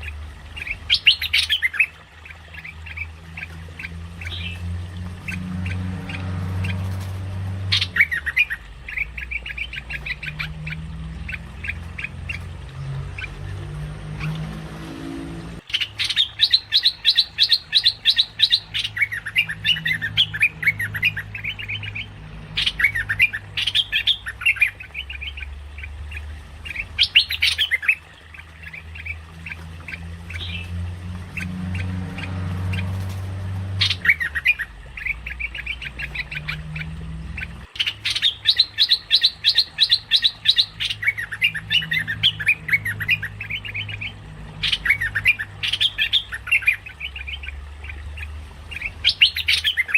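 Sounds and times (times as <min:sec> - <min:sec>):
bulbul chattering: 0:00.0 - 0:49.9.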